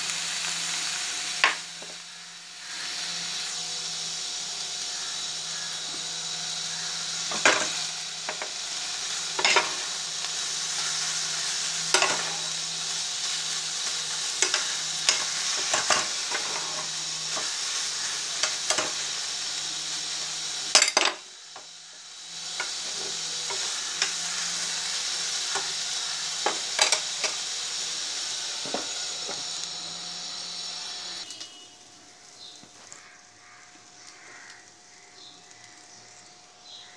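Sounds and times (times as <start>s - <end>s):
food sizzling in a pot: 0.0s - 36.9s.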